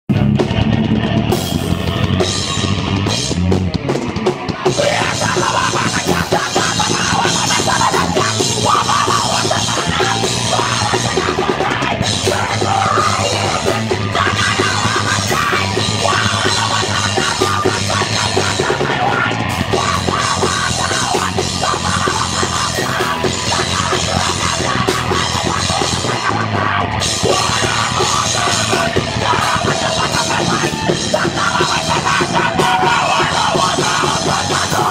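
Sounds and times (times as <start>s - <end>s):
drum kit: 0.1s - 34.9s
heavy rock band playing live: 0.1s - 34.9s.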